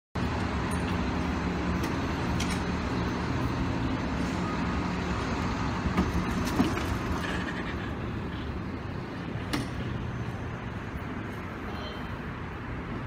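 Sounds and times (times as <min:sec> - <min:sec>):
road traffic rumble: 0:00.2 - 0:13.0.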